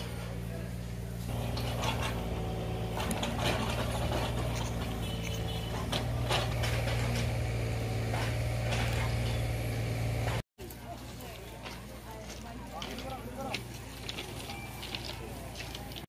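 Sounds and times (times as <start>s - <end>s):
idling train hum: 0.0s - 16.0s.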